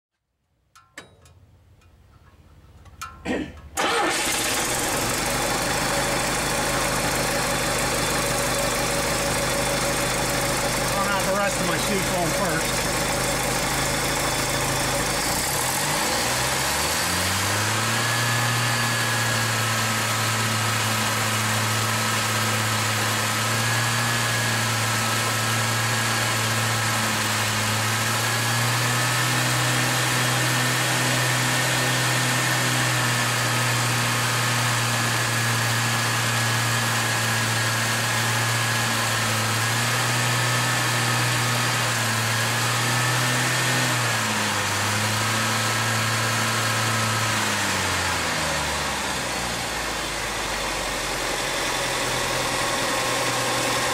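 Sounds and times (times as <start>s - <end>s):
car engine running: 3.7s - 40.1s, 44.4s - 53.9s.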